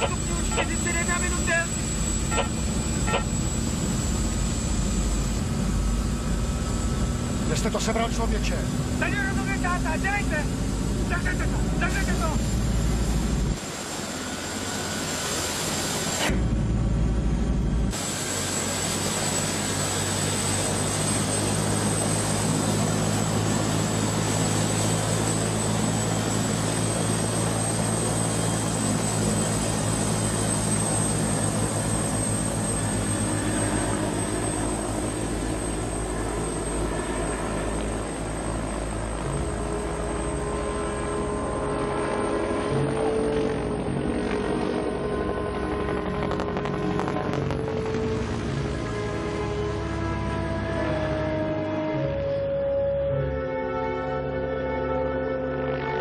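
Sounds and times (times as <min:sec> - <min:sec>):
helicopter rotor beat: 0:00.0 - 0:52.2
helicopter engine noise: 0:00.0 - 0:53.5
high turbine whine: 0:00.0 - 0:56.0.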